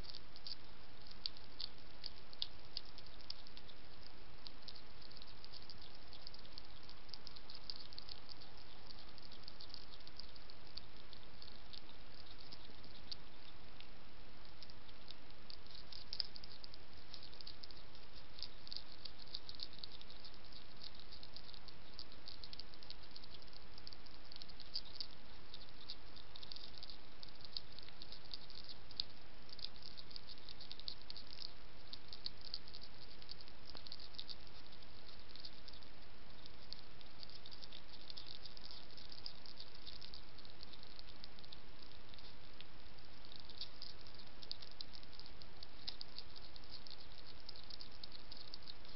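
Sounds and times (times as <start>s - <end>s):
hedgehog crunching dry food: 0.0s - 48.9s
steady hiss: 0.0s - 48.9s.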